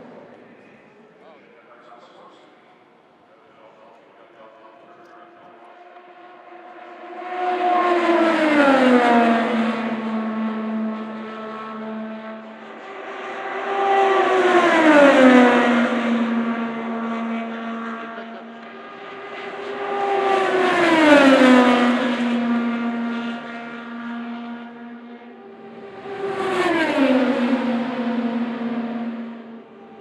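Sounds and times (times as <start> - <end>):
race cars passing at speed: 0.0 - 2.6, 4.4 - 30.0.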